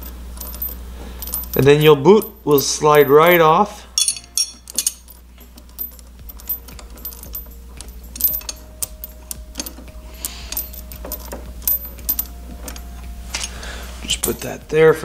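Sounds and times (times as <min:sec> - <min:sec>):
wrenches clinking on metal: 0:00.0 - 0:14.6.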